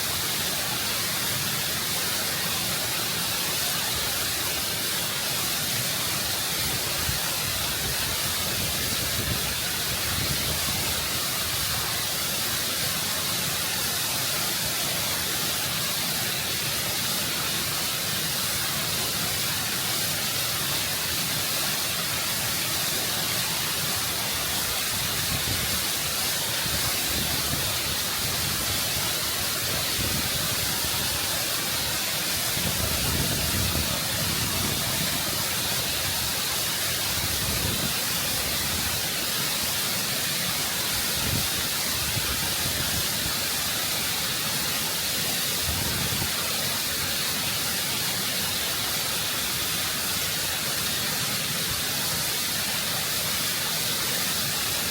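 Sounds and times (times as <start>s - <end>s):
waterfall rushing over rock: 0.0s - 54.9s.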